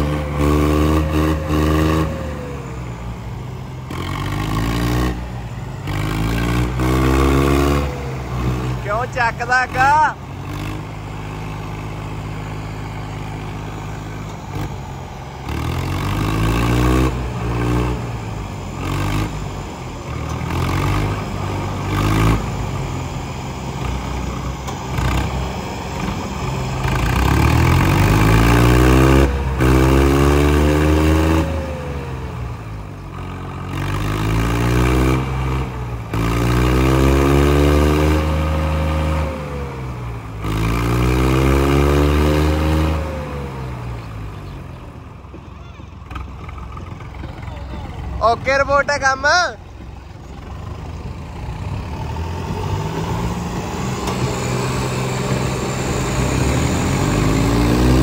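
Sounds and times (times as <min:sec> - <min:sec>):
diesel tractor engines labouring: 0:00.0 - 0:58.0.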